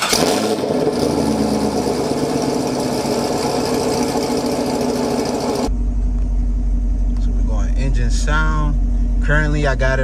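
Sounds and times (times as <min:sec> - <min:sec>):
car engine idling loudly: 0:00.0 - 0:10.0.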